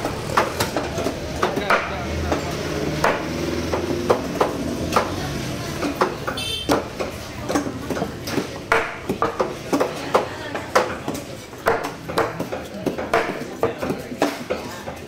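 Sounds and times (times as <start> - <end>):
knife chopping fish on wood: 0.1 - 5.2, 5.8 - 15.0.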